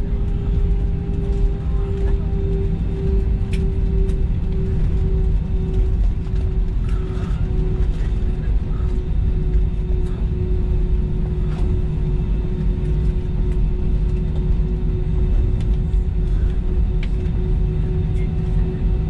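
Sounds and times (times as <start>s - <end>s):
aircraft cabin low rumble: 0.0s - 19.0s
constant hum: 0.0s - 19.0s.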